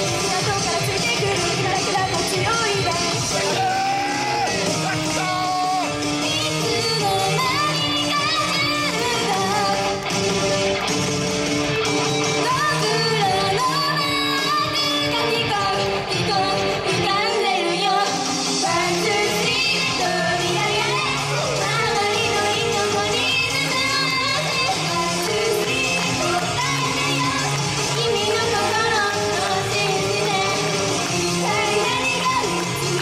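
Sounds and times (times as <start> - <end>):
band backing track: 0.0 - 33.0.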